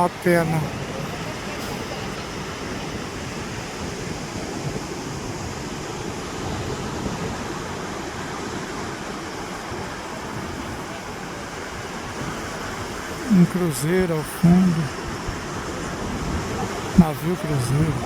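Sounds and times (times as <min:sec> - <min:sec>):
sea surf washing on beach: 0:00.0 - 0:18.0.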